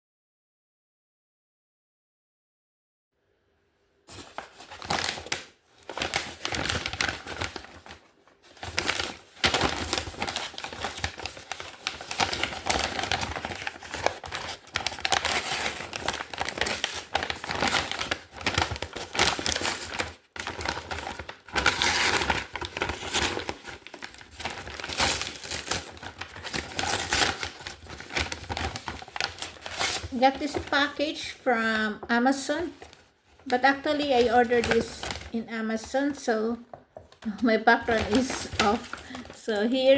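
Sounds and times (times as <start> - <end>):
packaging crinkling and rustling: 4.1 - 31.8, 32.5 - 39.9.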